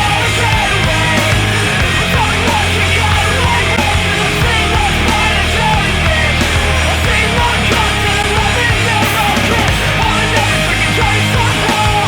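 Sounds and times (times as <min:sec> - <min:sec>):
distorted heavy rock music: 0:00.0 - 0:12.0.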